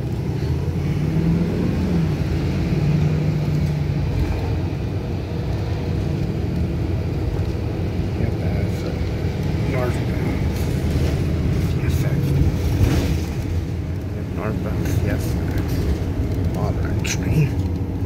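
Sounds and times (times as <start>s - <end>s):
bus engine: 0.0s - 18.0s
road noise: 0.0s - 18.0s.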